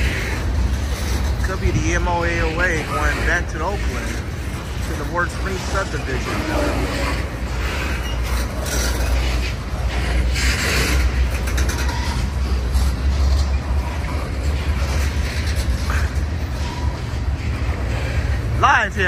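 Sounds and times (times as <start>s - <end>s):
rail clicks: 0.0s - 19.0s
train wheels rumbling on rail: 0.0s - 19.0s.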